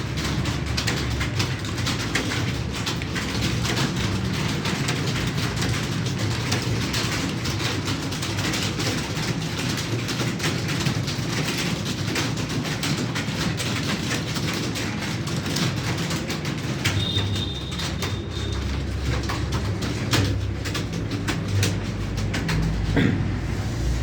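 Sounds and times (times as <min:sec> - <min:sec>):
keyboards typing clatter: 0:00.0 - 0:23.4.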